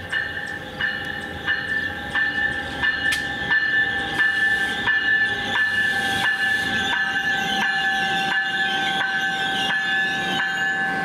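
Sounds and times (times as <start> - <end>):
locomotive bell ringing: 0.0 - 11.0
low train rumble: 0.0 - 11.0.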